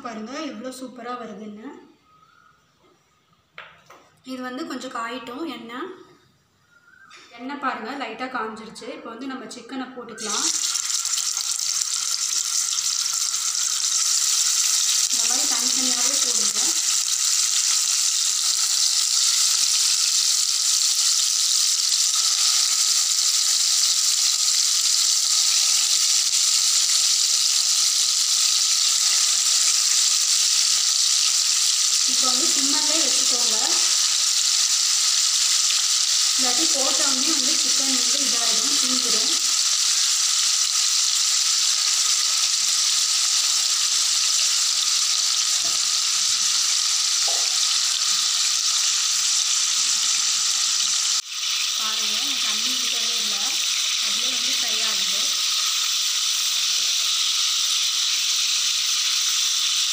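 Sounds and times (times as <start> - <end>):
chicken sizzling in oil: 10.1 - 59.9.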